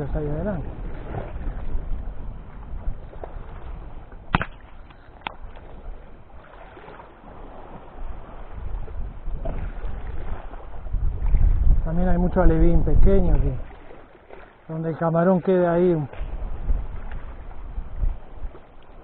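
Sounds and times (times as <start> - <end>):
wind noise on microphone: 0.0 - 14.0, 15.8 - 19.0.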